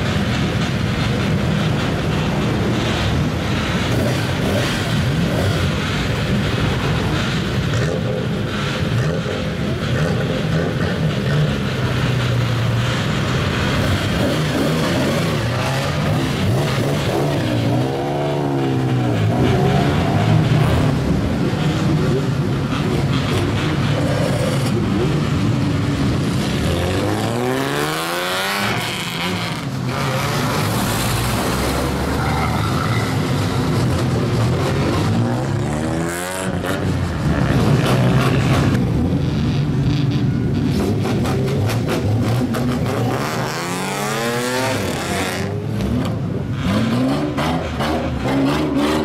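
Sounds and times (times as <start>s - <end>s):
car engines revving loudly: 0.0s - 49.0s.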